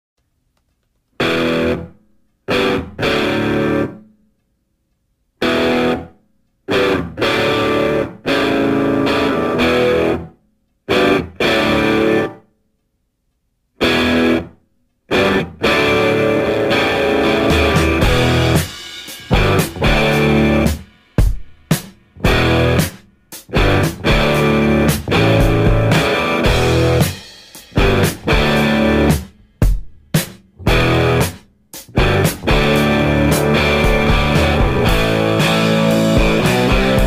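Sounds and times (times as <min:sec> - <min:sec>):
distorted electric guitar chords: 0:01.2 - 0:04.1, 0:05.4 - 0:10.3, 0:10.9 - 0:12.4, 0:13.8 - 0:20.9, 0:22.2 - 0:29.4, 0:30.6 - 0:37.0.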